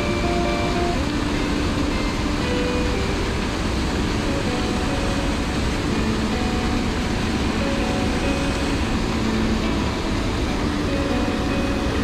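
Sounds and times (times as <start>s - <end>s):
water rushing over a weir: 0.0s - 12.0s.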